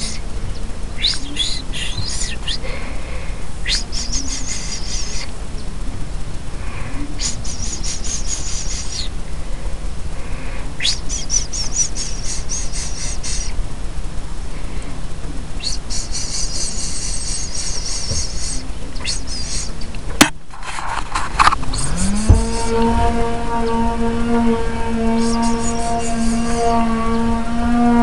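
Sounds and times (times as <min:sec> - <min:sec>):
nestlings chattering begging calls: 0:00.0 - 0:09.6, 0:10.2 - 0:13.6, 0:15.4 - 0:20.0, 0:21.6 - 0:27.4
steady low rumble: 0:00.0 - 0:28.0.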